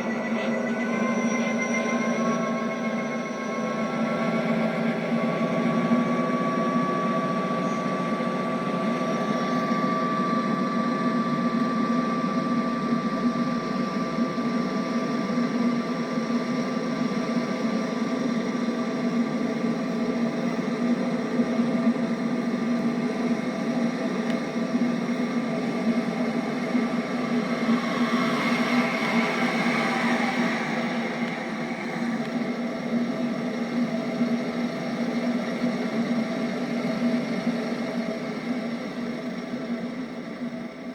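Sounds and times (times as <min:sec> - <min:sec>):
thin high whine: 0:00.0 - 0:22.0, 0:24.1 - 0:40.9.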